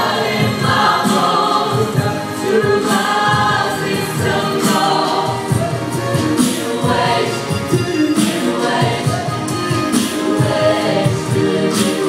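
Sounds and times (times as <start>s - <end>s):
mixed choir singing through pa: 0.0s - 12.0s.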